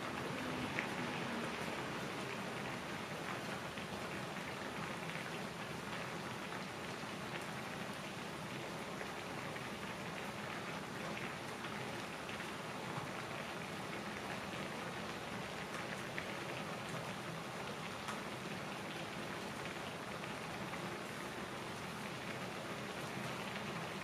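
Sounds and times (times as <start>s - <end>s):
broth boiling in a pan: 0.0s - 24.0s.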